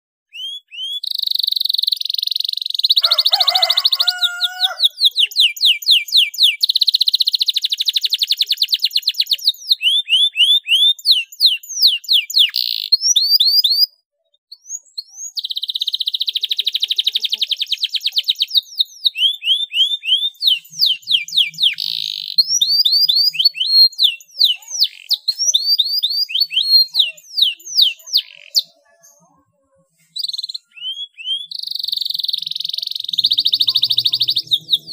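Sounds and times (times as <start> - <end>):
canary singing trills: 0.3 - 34.9.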